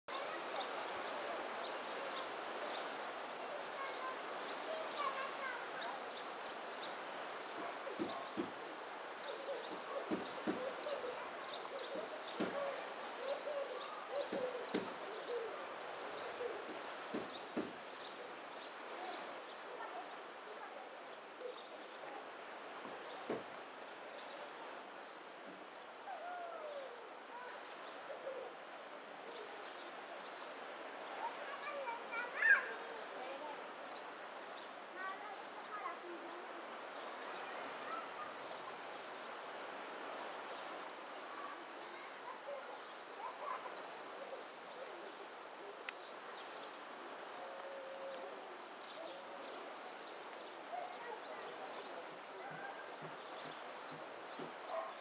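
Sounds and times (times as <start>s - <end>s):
faint bird calls: 0.1s - 39.3s, 39.9s - 55.0s
steady hiss: 0.1s - 54.7s.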